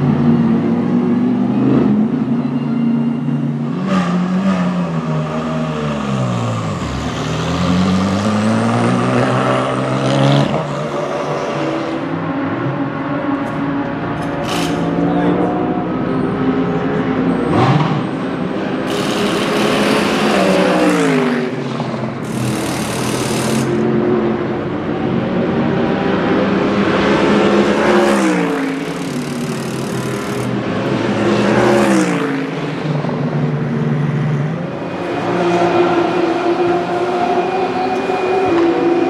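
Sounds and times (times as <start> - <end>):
race car engines passing: 0.0 - 39.0.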